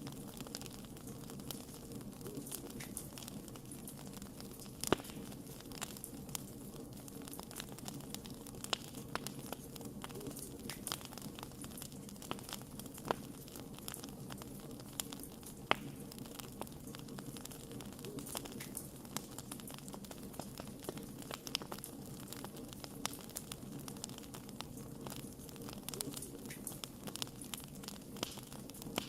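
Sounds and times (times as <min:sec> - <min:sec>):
fire crackling and popping: 0:00.0 - 0:29.0
wood fire rumbling: 0:00.0 - 0:29.0.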